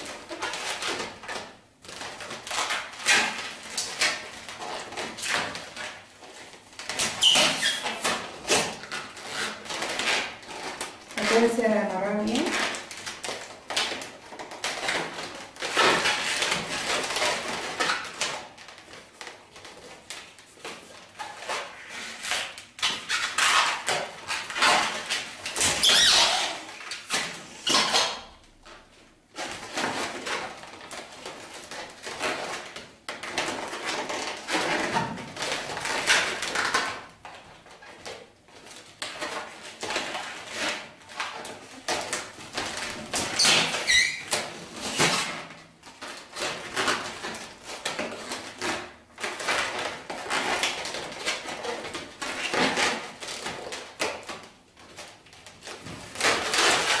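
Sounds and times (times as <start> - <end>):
balloons squeaking and rubbing: 0.0 - 54.4, 55.0 - 57.0.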